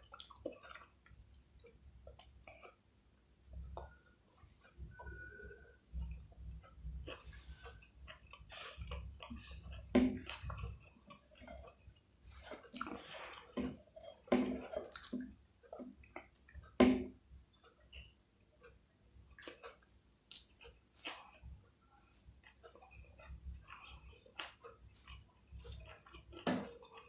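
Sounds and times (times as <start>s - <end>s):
wet chewing and mouth smacks: 0.0s - 16.8s, 17.5s - 27.0s.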